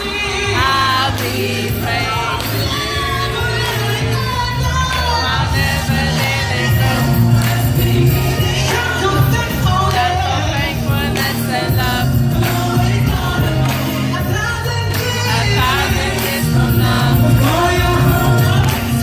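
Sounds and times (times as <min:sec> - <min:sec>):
band with steady bass line: 0:00.0 - 0:19.0
choir singing: 0:00.0 - 0:19.0.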